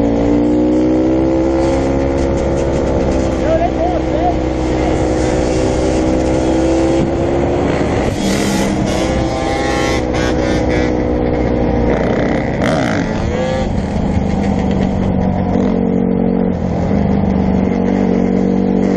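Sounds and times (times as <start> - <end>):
dirt bike engines revving: 0.0 - 18.9.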